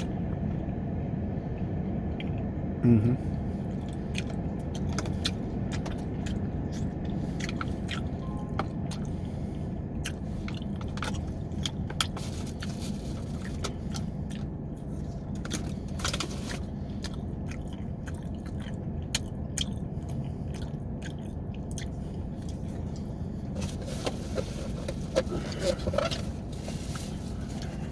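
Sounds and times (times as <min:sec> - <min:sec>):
low rumble: 0:00.0 - 0:27.9
person chewing food: 0:03.3 - 0:27.9.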